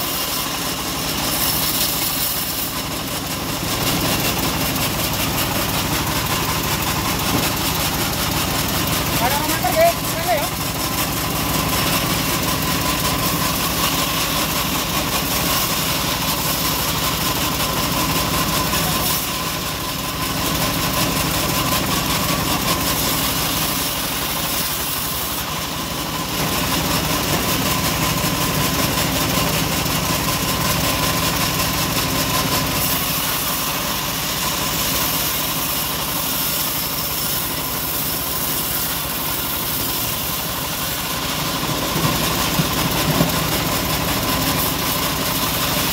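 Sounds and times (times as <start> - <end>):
band sawmill sawing log: 0.0 - 45.9.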